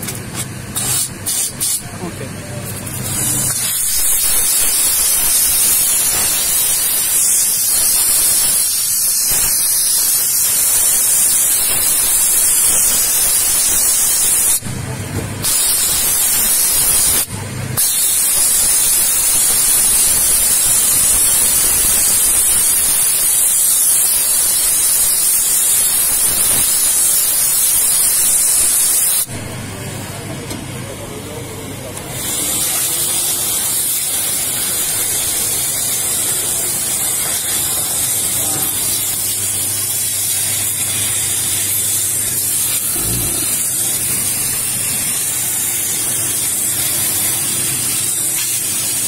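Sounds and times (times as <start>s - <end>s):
steam jet hissing: 2.9s - 14.7s, 15.4s - 29.4s, 32.0s - 49.0s.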